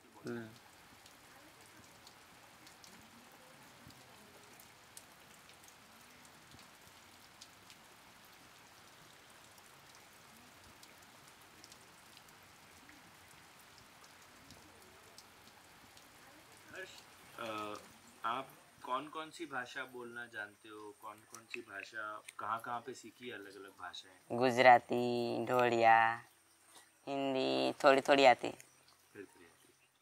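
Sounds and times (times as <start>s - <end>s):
faint steady rain: 0.0s - 30.0s.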